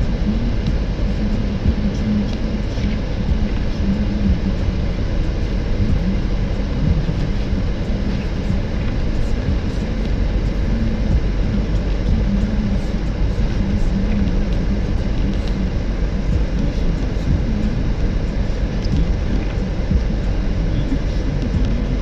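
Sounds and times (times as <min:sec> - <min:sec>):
car driving rumble: 0:00.0 - 0:22.0
low hum: 0:00.0 - 0:22.0.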